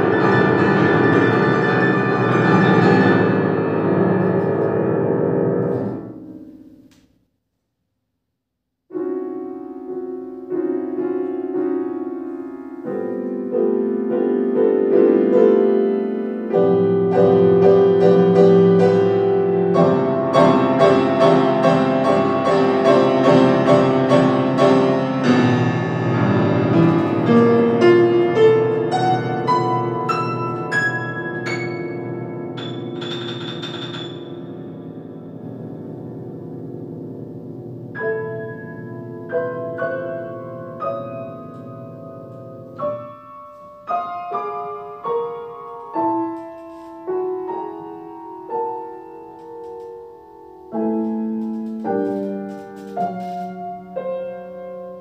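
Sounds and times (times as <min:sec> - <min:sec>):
solo grand piano: 0:00.0 - 0:07.2, 0:08.8 - 0:55.0.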